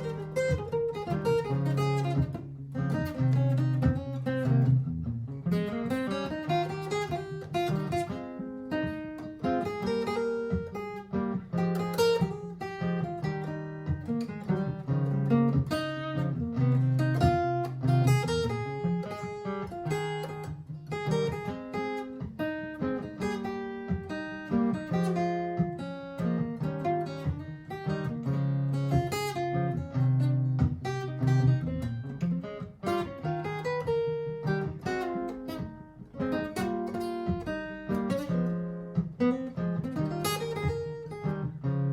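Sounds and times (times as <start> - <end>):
acoustic guitar improvisation: 0.0 - 41.9
looped guitar part: 0.0 - 41.9.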